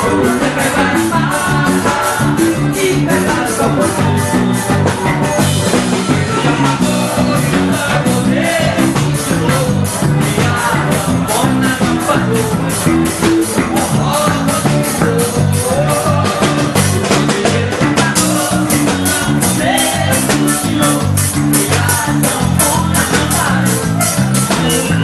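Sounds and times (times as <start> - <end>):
live band playing quick beat: 0.0 - 25.0
stepping bass line: 0.0 - 25.0.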